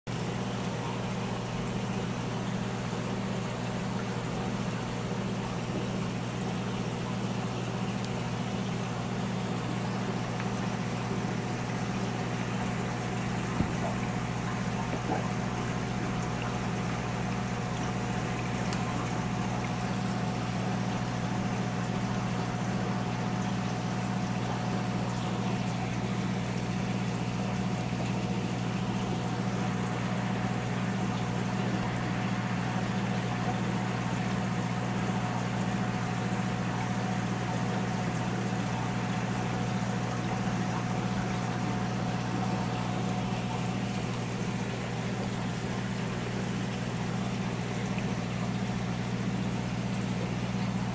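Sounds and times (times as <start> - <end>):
aquarium pump humming: 0.1 - 50.9
water bubbling: 0.2 - 33.6, 37.6 - 50.9.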